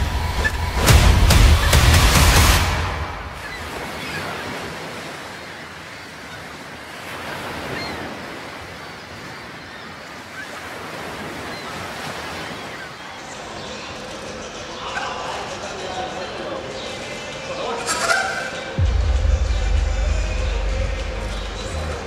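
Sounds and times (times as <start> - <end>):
sea waves washing on shore: 0.0 - 22.0.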